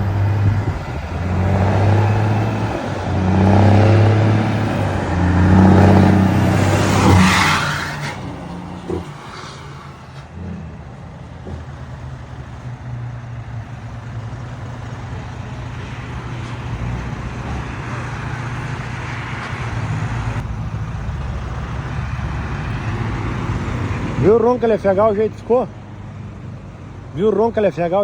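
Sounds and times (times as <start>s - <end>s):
truck diesel engine with crackling exhaust: 0.0s - 28.0s.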